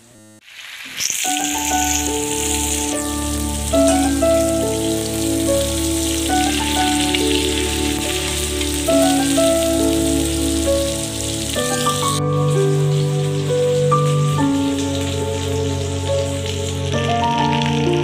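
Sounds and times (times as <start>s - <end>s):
chicken sizzling in hot oil: 0.4s - 18.0s
background music of held notes: 1.3s - 18.0s.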